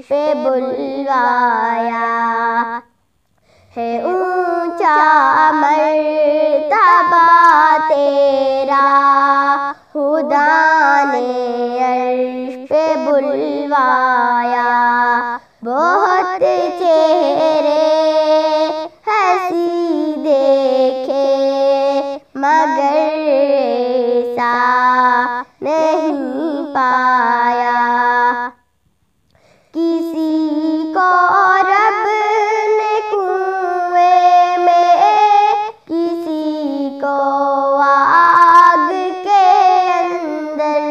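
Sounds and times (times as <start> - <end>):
girl singing unaccompanied: 0.0 - 28.8, 29.4 - 40.9.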